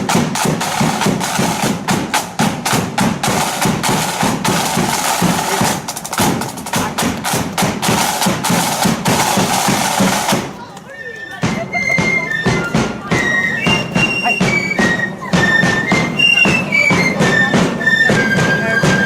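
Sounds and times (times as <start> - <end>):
snare drums beating: 0.0 - 10.6, 11.4 - 19.0
marching flute band playing: 0.0 - 19.0.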